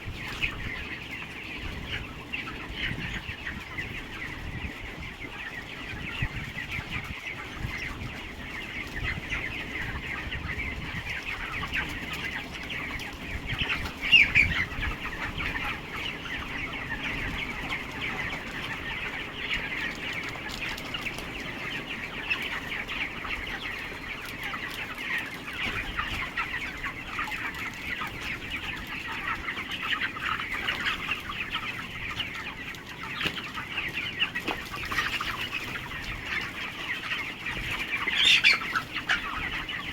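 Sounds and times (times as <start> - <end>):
chickens peeping and clucking: 0.0 - 39.9.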